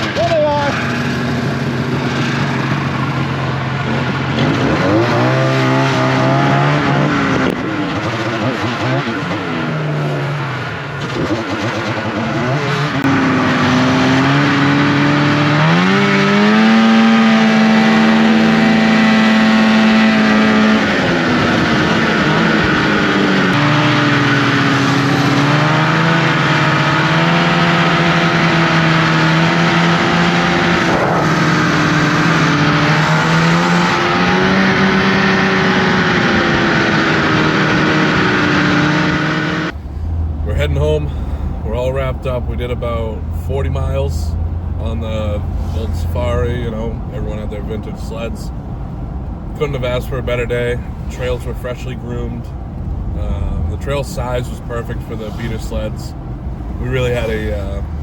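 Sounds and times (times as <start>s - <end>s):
snowmobile engine revving: 0.0s - 48.6s, 49.5s - 52.5s, 53.1s - 58.0s.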